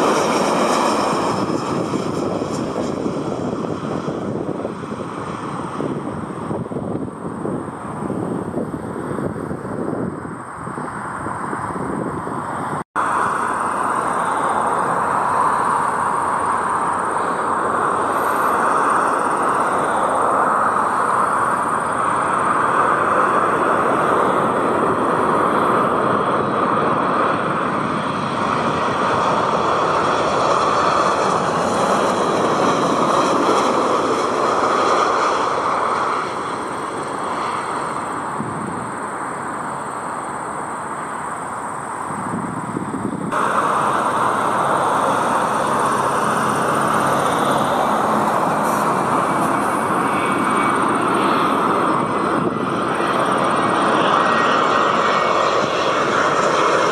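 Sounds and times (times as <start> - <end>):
jet engines roaring with fan whine: 0.0 - 56.9.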